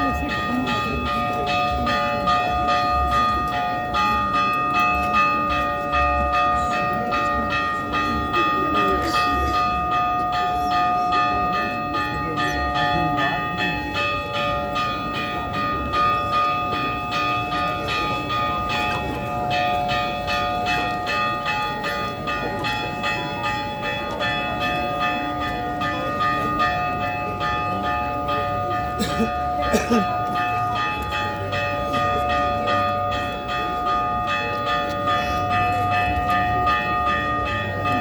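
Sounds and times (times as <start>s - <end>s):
church bells ringing: 0.0s - 38.0s.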